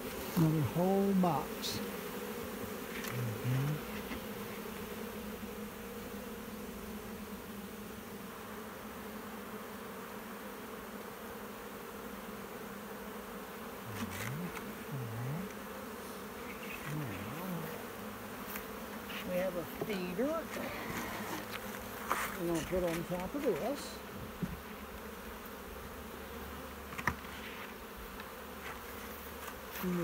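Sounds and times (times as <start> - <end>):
bee buzzing past: 0.0 - 30.0
bee swarm humming: 0.0 - 30.0.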